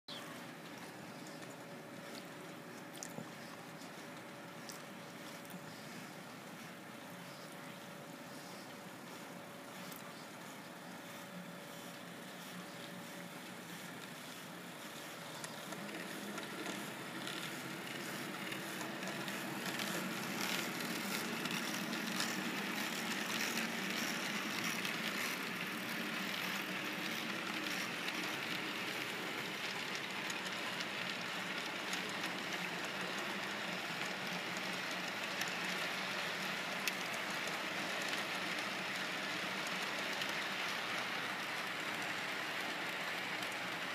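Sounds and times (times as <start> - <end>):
model train rolling on rails: 0.1 - 43.9.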